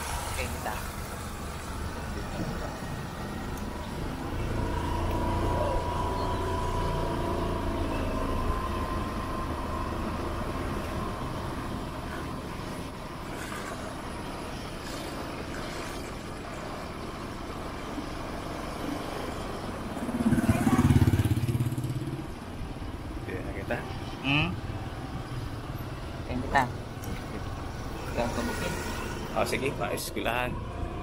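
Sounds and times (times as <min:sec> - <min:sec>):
vehicle engine running: 0:00.0 - 0:30.8
traffic noise: 0:00.0 - 0:31.0.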